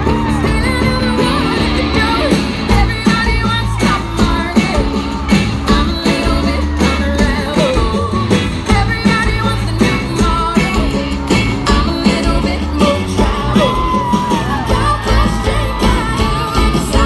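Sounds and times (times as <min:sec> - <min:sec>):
electric and acoustic guitars: 0:00.0 - 0:17.0
live country-rock band: 0:00.0 - 0:17.0
steady drum beat: 0:00.0 - 0:17.0.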